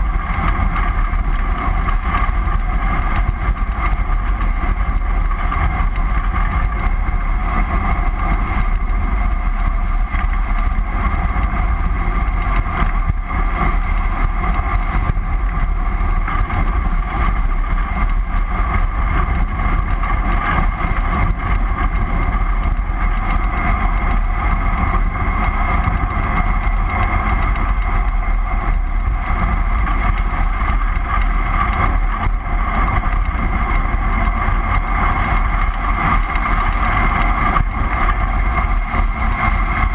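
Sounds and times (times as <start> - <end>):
road noise: 0.0 - 39.9
wind rush on microphone: 0.0 - 39.9.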